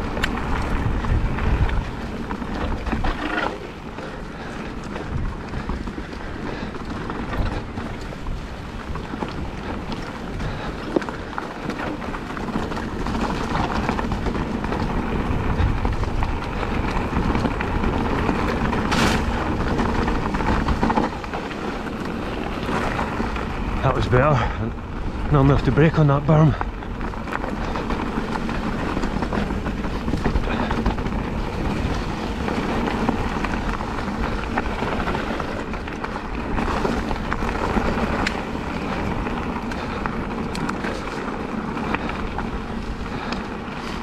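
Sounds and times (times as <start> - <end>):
tyres rumbling over rocks: 0.0 - 44.0
wind buffeting microphone: 0.0 - 44.0.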